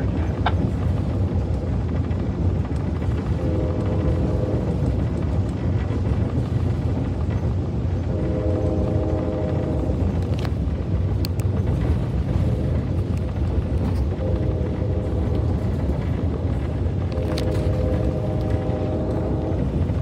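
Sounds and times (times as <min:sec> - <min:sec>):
freight train cars rumbling past: 0:00.0 - 0:20.0
faint tonal hum: 0:02.9 - 0:20.0.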